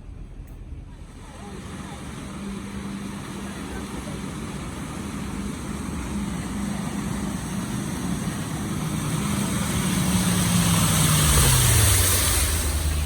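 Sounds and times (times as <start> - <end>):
tyres hissing on wet road: 1.0 - 13.0
car engine passing: 1.1 - 13.0.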